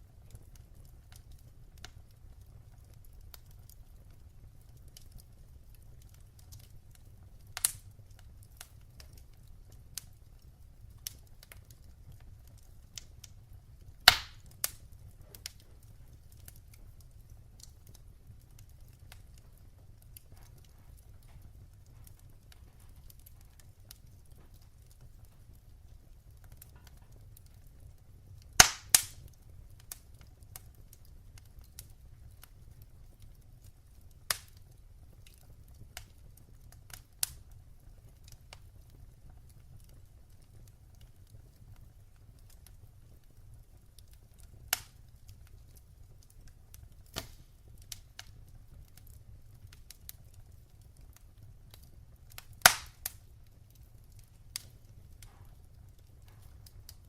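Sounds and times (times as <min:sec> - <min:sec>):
wood fire crackling: 0:00.0 - 0:57.0
sharp pops of fire: 0:00.3 - 0:27.6, 0:28.4 - 0:32.6, 0:34.1 - 0:39.0, 0:43.7 - 0:57.0.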